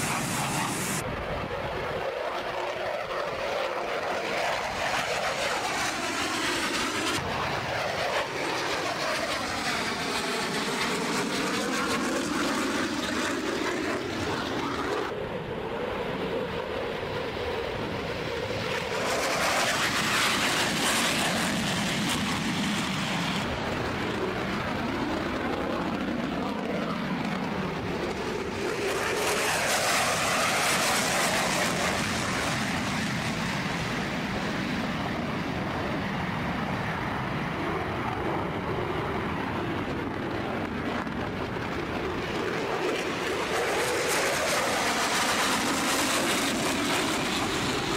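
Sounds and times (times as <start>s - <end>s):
fighter jets flying past: 0.0s - 47.9s.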